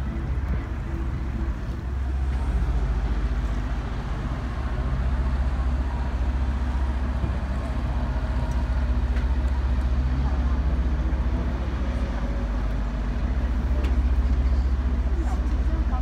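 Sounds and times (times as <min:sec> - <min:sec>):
boat engine drone: 0:00.0 - 0:16.0
water rushing along hull: 0:00.0 - 0:16.0.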